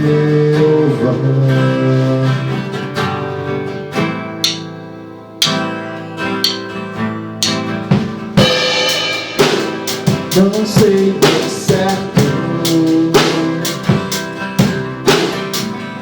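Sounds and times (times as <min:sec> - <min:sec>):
guitar strumming chords: 0:00.2 - 0:16.0.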